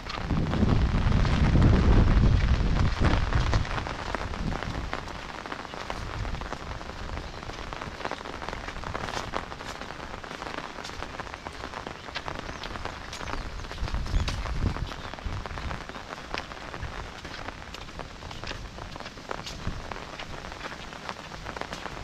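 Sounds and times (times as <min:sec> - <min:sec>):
rain on brick road: 0:00.0 - 0:22.0
raindrop hits ticking: 0:00.0 - 0:22.0.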